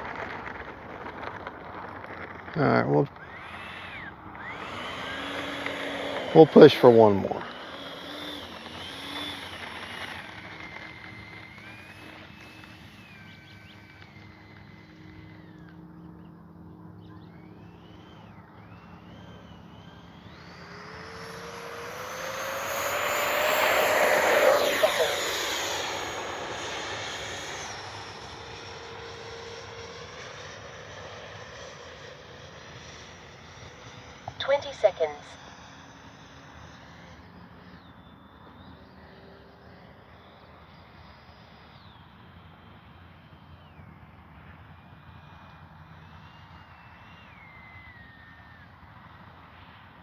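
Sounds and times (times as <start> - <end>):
electric ducted fan jet whining: 0.0 - 50.0.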